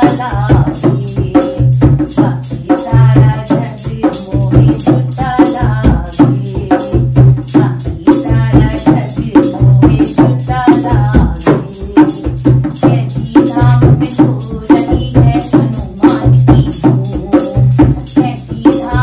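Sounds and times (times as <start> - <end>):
woman singing devotional song: 0.0 - 19.0.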